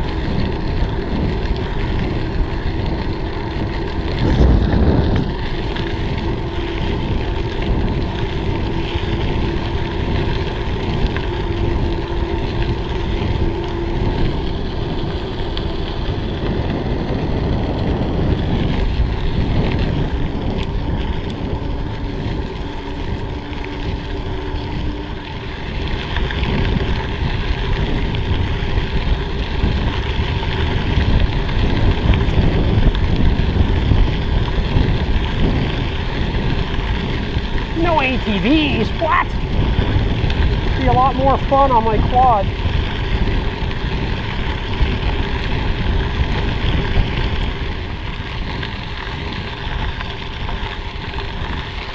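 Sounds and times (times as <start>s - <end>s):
bike tyre rumble on dirt: 0.0s - 51.9s
faint steady hum: 0.0s - 51.9s
wind buffeting microphone: 0.0s - 51.9s.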